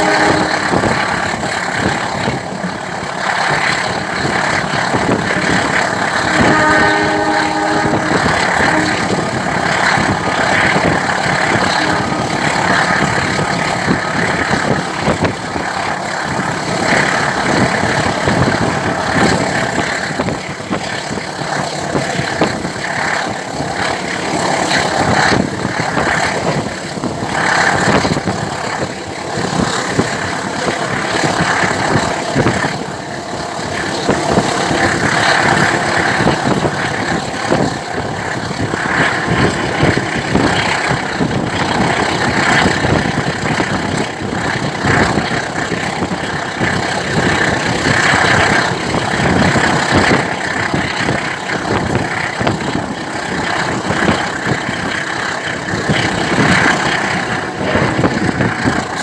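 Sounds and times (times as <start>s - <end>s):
steel wheels clattering on rails: 0.0s - 59.0s
train rumble: 0.0s - 59.0s
wind rushing: 7.4s - 59.0s.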